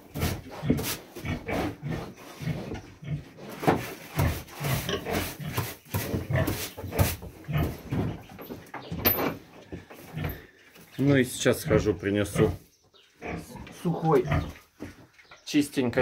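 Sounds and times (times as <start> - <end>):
pig grunting: 0.0 - 8.2, 10.0 - 14.7.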